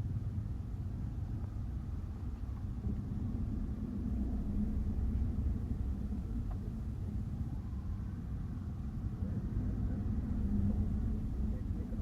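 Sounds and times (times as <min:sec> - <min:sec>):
bus engine drone: 0:00.0 - 0:12.0
road noise: 0:00.0 - 0:12.0.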